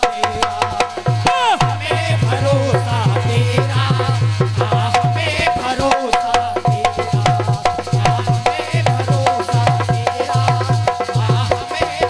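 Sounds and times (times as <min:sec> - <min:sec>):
hand drum fast beat: 0:00.0 - 0:12.0.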